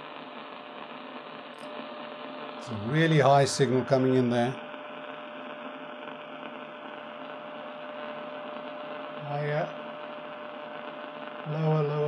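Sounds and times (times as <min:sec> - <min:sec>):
radio loudspeaker hiss: 0:00.0 - 0:12.0.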